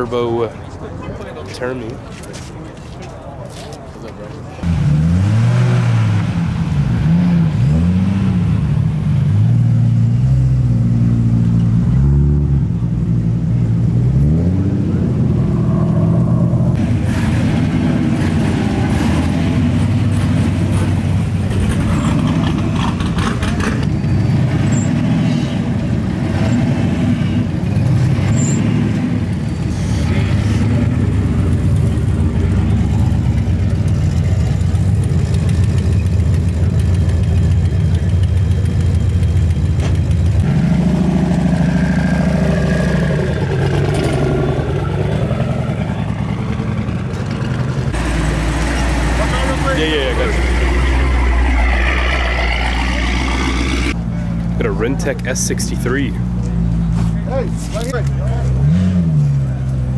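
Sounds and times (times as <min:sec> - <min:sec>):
performance car engines running: 0:00.0 - 0:59.9.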